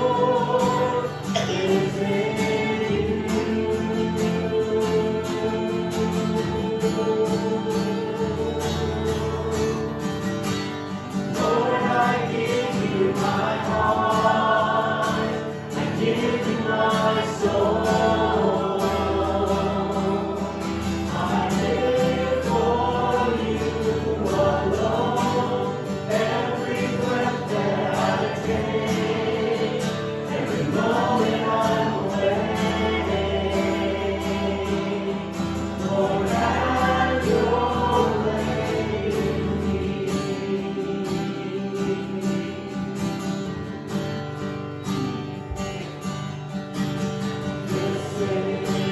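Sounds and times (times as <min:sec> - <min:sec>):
group of voices singing: 0:00.0 - 0:46.1, 0:47.2 - 0:48.9
strummed guitar: 0:00.0 - 0:48.9.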